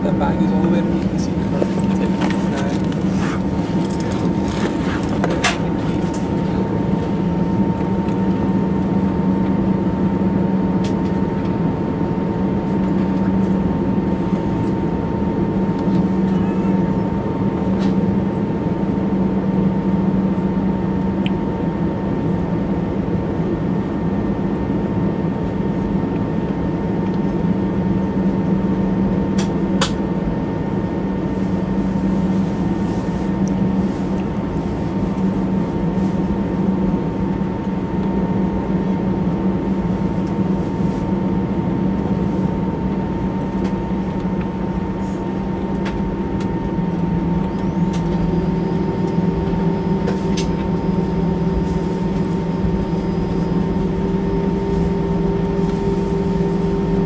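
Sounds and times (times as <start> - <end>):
thin steady whine: 0.0 - 21.2, 24.0 - 57.0
low cabin drone: 0.0 - 57.0.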